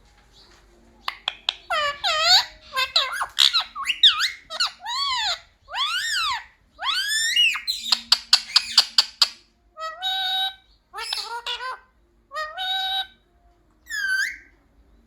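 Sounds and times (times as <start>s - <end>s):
parakeet screechy calls: 1.1s - 13.2s, 13.9s - 14.5s.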